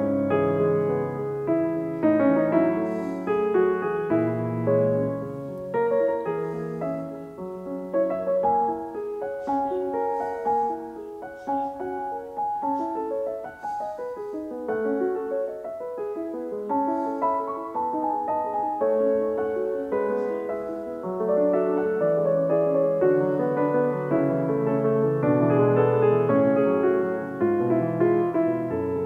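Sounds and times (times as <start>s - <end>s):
calm piano music: 0.0s - 29.0s.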